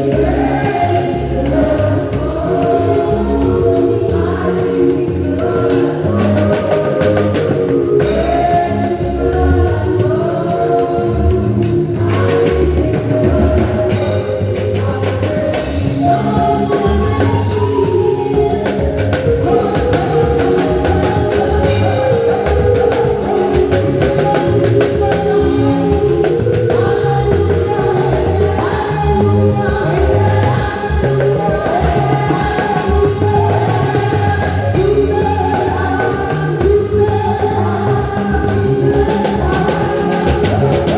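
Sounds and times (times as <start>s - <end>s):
gospel choir with band: 0.0s - 40.9s.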